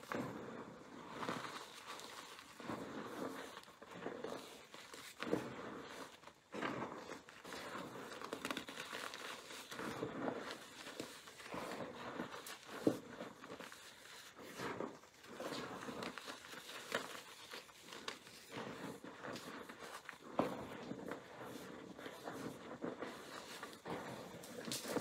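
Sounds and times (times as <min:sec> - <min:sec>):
hands crunching dry chalk: 0:00.0 - 0:25.0.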